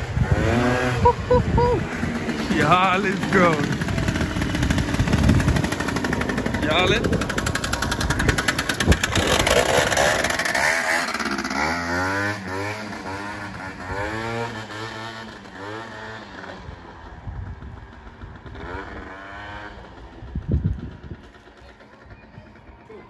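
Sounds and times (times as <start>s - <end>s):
scooter engine accelerating: 0.0s - 23.0s.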